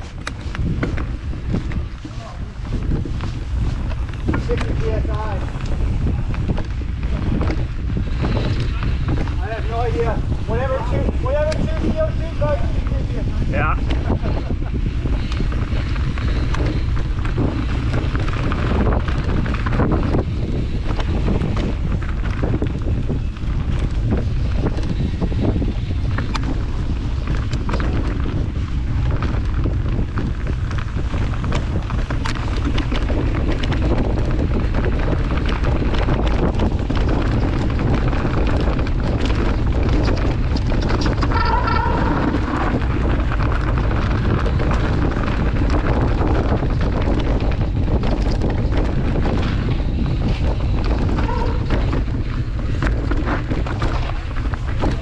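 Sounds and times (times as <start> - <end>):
bike rattling and clicking: 0.0 - 55.0
wind buffeting microphone: 0.0 - 55.0.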